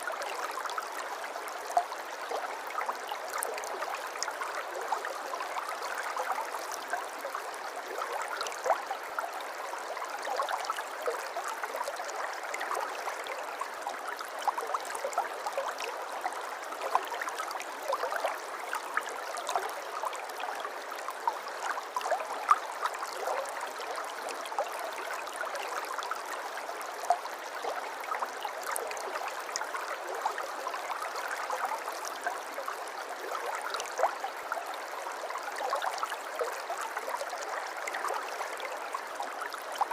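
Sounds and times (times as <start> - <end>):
stream gurgling over stones: 0.0 - 39.9.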